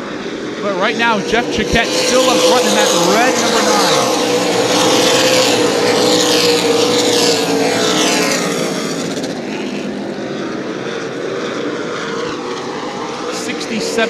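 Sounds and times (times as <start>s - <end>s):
stock car engines racing: 0.0s - 14.0s.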